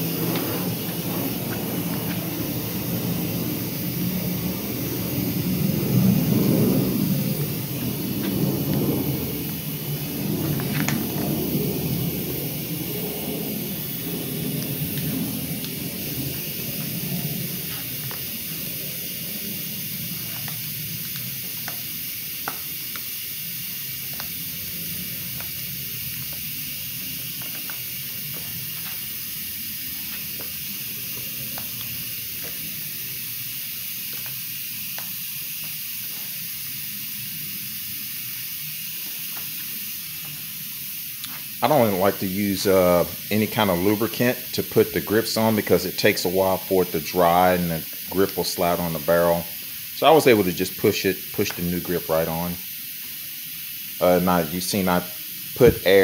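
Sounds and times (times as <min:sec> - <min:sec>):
compressed air hissing: 0:00.0 - 0:56.0.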